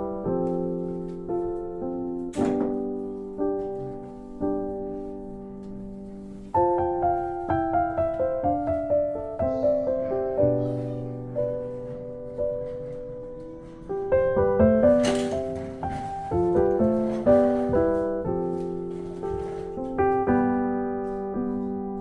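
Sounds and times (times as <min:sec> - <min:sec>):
gentle solo piano music: 0:00.0 - 0:22.0.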